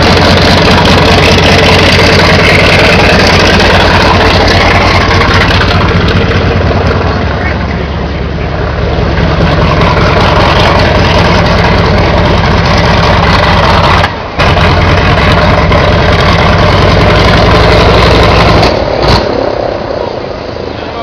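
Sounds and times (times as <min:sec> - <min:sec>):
piston aircraft engine idling: 0:00.0 - 0:21.0.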